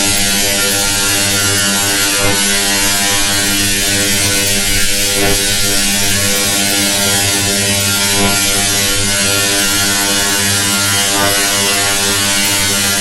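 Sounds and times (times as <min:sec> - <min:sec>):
low synthetic buzzing drone: 0:00.0 - 0:13.0.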